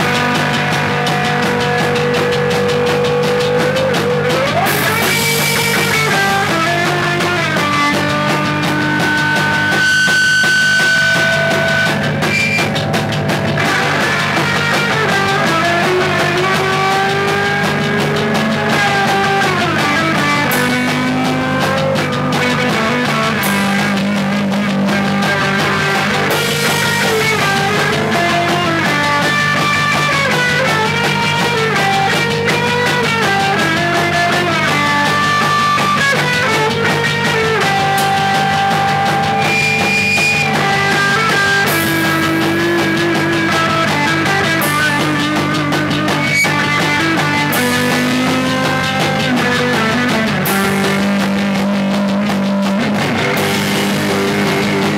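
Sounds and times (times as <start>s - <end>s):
electric guitar sliding notes: 0.0s - 54.9s
live rock band: 0.0s - 54.9s.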